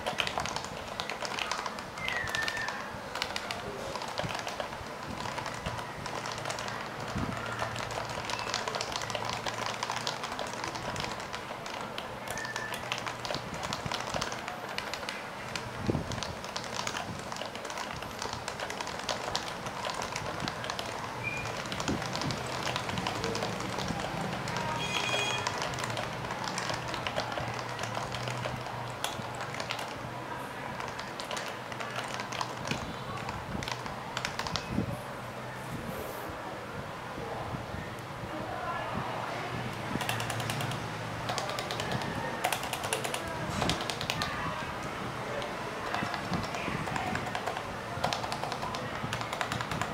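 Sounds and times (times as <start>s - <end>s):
keyboard typing: 0.0s - 34.9s, 39.7s - 49.9s.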